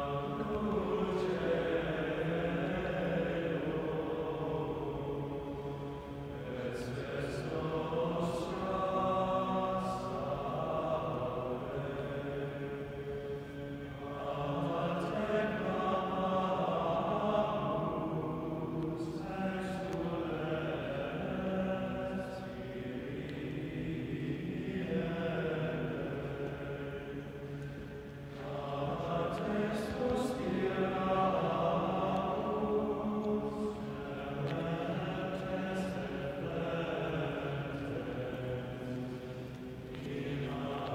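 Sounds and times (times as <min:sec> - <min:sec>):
men singing unaccompanied chant: 0:00.0 - 0:40.9.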